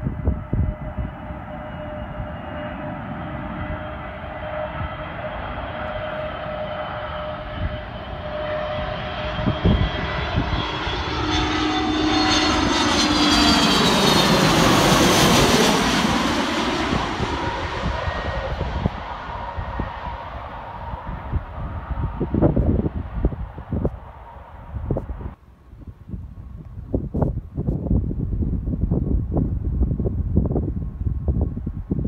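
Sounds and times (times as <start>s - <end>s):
airliner jet engines passing overhead: 0.0s - 32.0s
wind rumbling on microphone: 0.0s - 32.0s.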